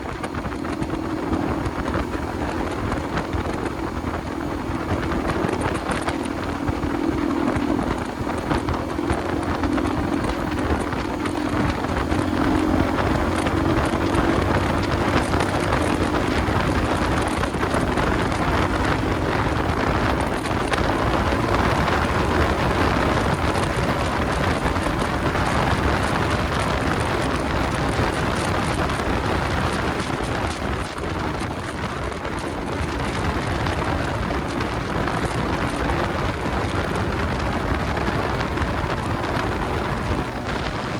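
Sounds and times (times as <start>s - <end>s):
motorcycle engine: 0.0s - 40.9s
road noise: 0.0s - 40.9s
wind buffeting microphone: 0.0s - 40.9s.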